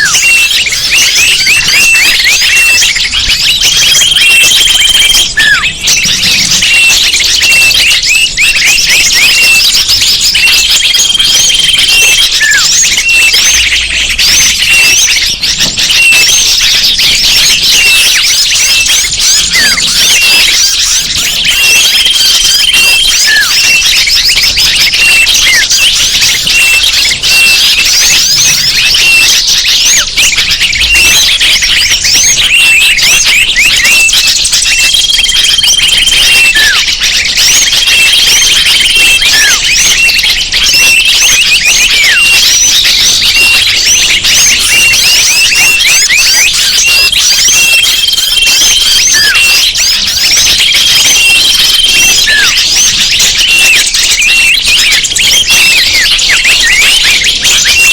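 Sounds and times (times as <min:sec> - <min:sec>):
short steady whistles: 0:00.0 - 0:09.7, 0:10.4 - 0:57.9
chorus of small birds chirping: 0:00.0 - 0:57.9.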